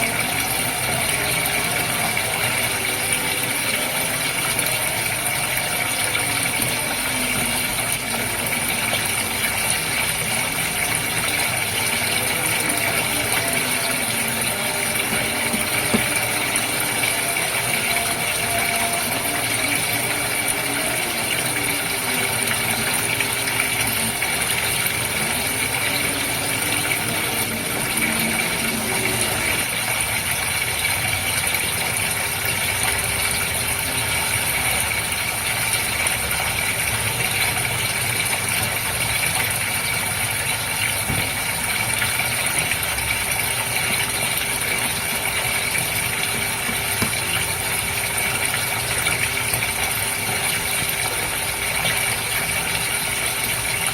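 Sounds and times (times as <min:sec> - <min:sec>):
aquarium water bubbling: 0:00.0 - 0:53.9
motor hum: 0:00.0 - 0:53.9.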